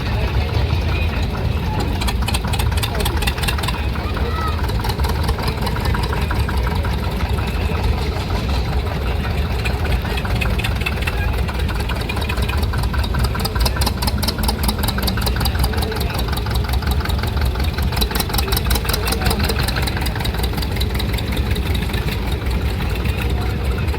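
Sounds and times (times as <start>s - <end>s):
engine running: 0.0s - 23.9s.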